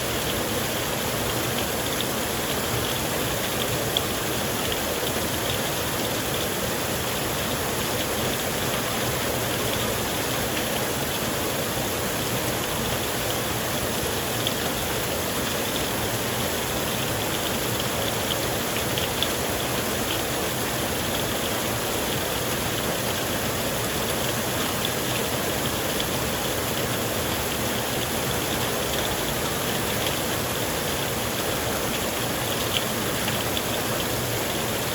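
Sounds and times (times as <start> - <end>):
torrential rain pouring: 0.0 - 34.9.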